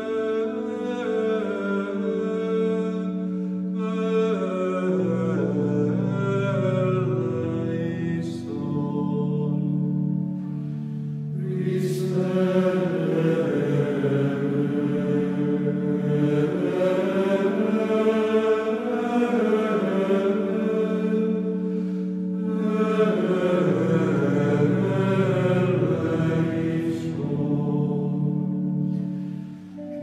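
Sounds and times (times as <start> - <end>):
slow vocal chanting: 0.0 - 30.0.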